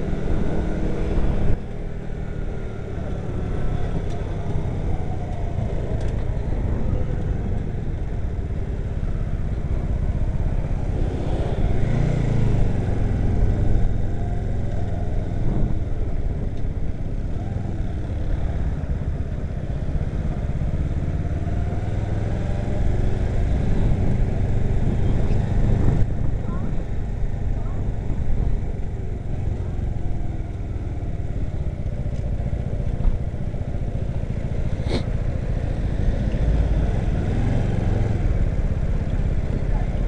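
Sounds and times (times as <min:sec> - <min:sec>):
wind rumble on microphone: 0:00.0 - 0:40.0.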